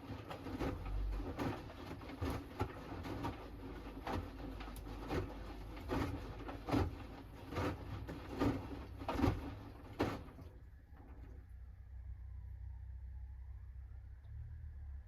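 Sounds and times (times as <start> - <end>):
washing machine low hum: 0.0 - 15.0.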